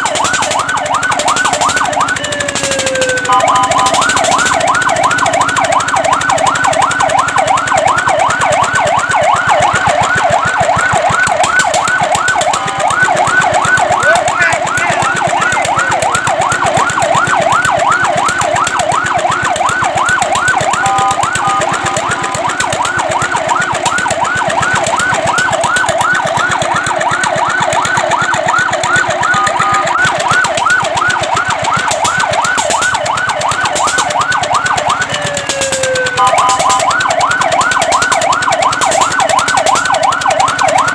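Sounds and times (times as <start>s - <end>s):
fire truck siren yelping: 0.0s - 40.9s.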